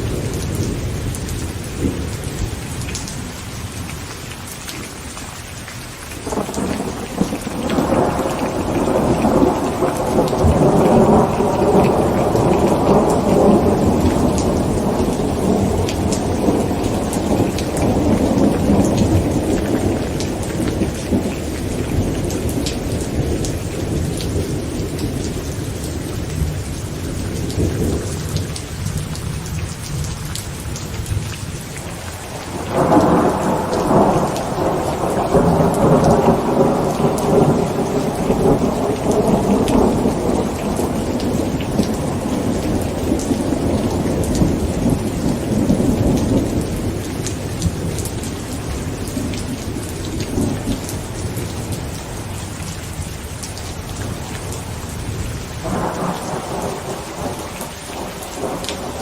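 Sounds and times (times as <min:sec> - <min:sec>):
heavy rain on a tent: 0:00.0 - 0:59.0
rolling thunder: 0:06.2 - 0:29.2, 0:32.2 - 0:52.3, 0:54.0 - 0:59.0.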